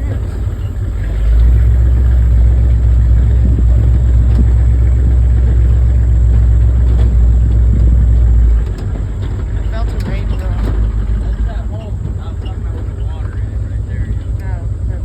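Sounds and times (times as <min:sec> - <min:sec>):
pickup truck rumbling: 0:00.0 - 0:15.0.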